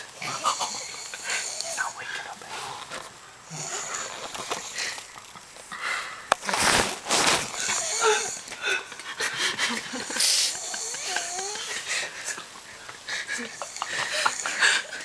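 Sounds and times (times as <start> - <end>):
person snoring: 0.0 - 8.9, 9.8 - 12.1, 13.3 - 15.0.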